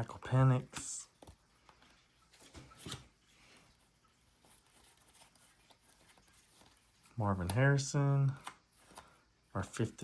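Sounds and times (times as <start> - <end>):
trading cards rustling: 0.3 - 10.0.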